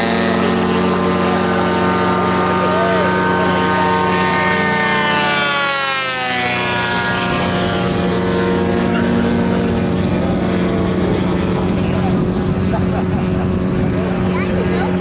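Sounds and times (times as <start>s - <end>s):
model plane engine propeller drone: 0.0s - 15.0s.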